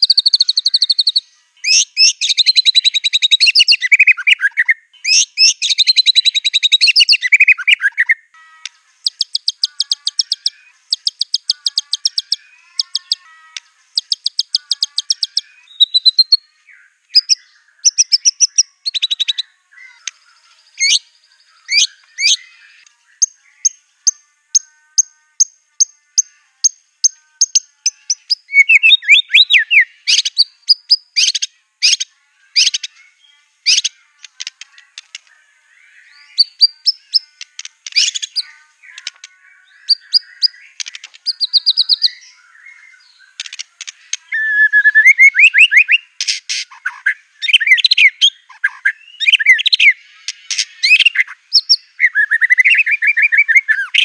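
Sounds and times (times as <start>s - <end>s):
bird high piping notes: 0.0s - 54.0s.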